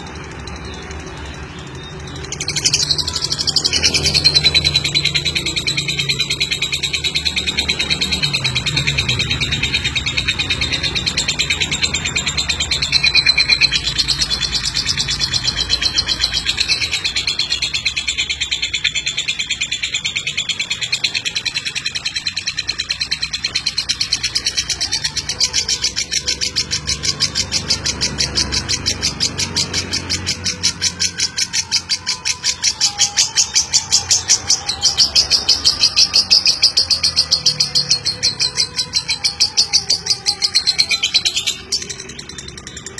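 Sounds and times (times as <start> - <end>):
lovebird chirping: 0.0 - 42.9.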